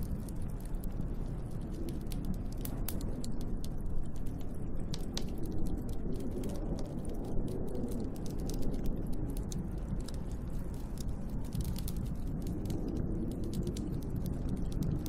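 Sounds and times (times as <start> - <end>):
howling snowstorm wind: 0.0 - 15.0
light ticks and crackles: 0.0 - 15.0.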